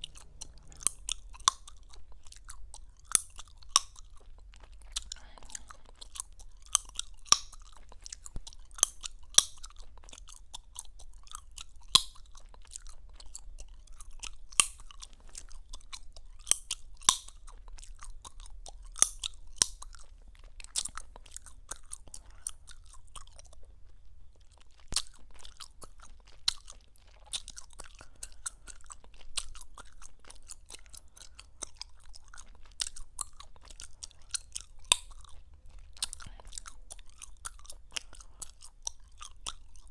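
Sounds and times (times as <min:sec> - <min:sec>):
gum chewing and popping: 0:00.0 - 0:39.9.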